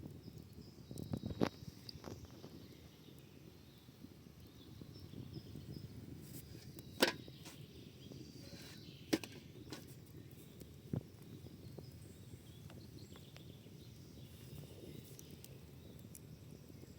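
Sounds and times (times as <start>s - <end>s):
campfire crackling: 0.0s - 16.9s.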